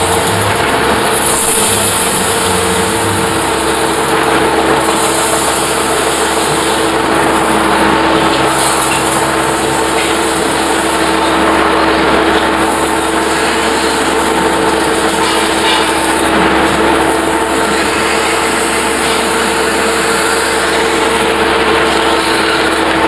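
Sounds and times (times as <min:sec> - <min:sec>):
metal-spinning lathe humming: 0:00.0 - 0:23.0.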